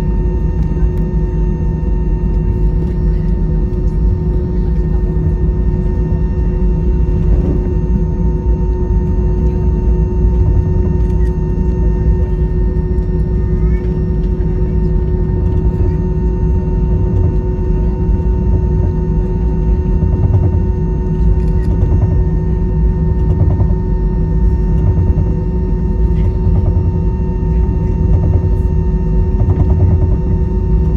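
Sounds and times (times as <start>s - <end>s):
jet engine cabin rumble: 0.0s - 30.9s.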